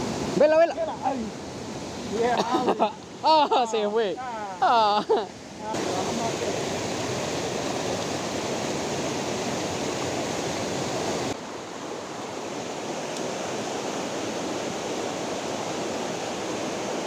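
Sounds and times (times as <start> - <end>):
creek rushing over stones: 0.0 - 17.0.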